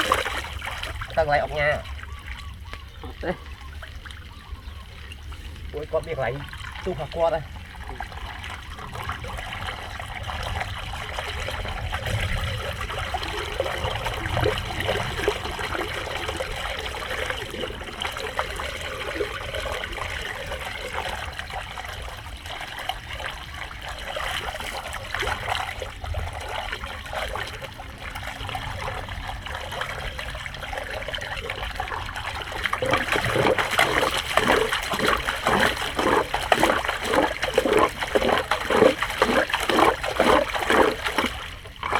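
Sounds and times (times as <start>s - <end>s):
water running into storm drain: 0.0s - 41.9s
water splashing: 0.0s - 41.9s.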